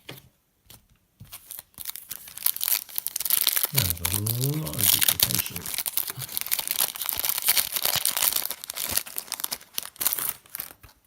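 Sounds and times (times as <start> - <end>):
card pack wrapper crinkling: 1.5 - 11.0.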